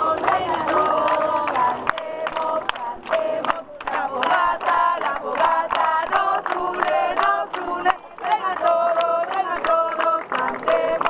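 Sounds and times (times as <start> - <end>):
young voices chanting: 0.0 - 11.0.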